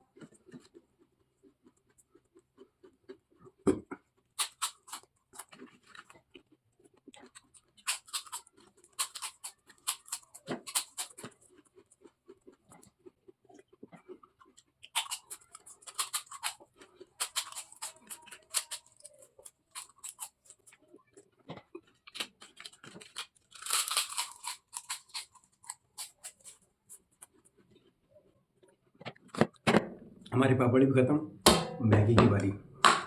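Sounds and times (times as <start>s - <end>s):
crisp cracker crunching: 0.0s - 29.6s.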